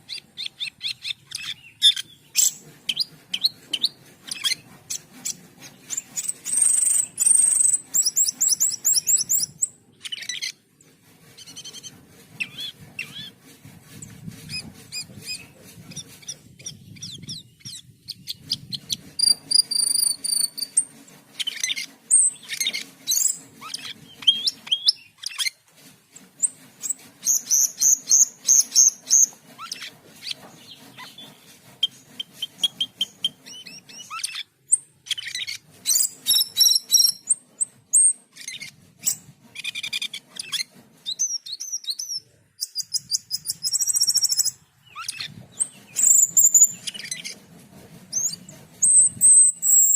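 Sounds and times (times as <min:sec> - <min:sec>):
starling singing chirps and trills: 0:00.0 - 0:25.6, 0:26.4 - 0:47.5, 0:48.1 - 0:49.9.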